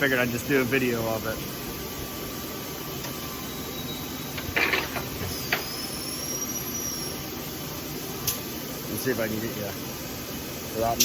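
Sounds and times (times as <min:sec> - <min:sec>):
workshop background hum: 0:00.0 - 0:11.0.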